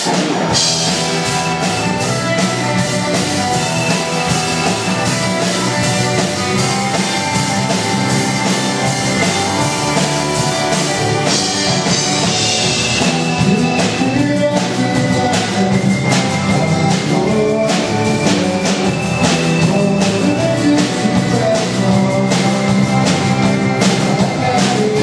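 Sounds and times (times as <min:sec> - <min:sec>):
rock music with drums and guitar: 0:00.0 - 0:25.0.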